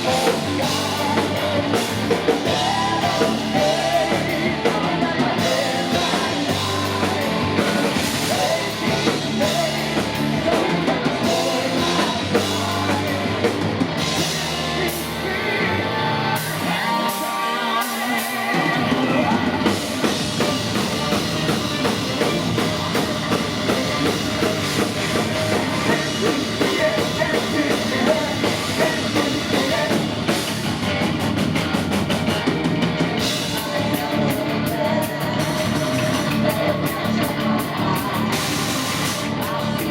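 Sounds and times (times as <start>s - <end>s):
person singing: 0.0s - 30.5s, 33.1s - 39.9s
distorted electric guitars: 0.0s - 39.9s
drum kit: 0.0s - 39.9s.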